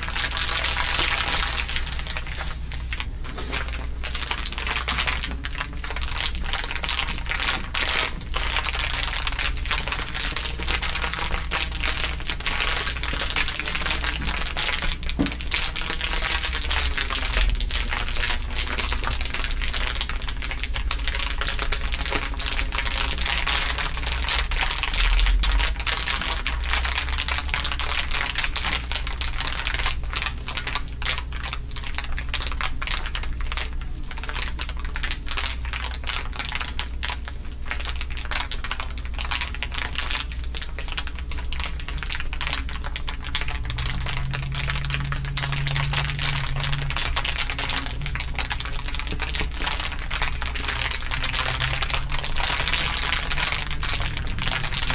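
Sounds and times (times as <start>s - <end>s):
dense crinkling crackle: 0.0s - 54.9s
steady low hum: 0.0s - 54.9s.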